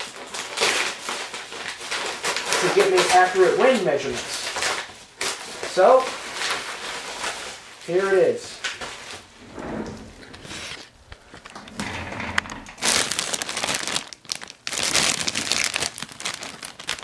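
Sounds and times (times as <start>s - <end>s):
plastic packaging crinkling: 0.0s - 9.4s, 10.2s - 17.0s.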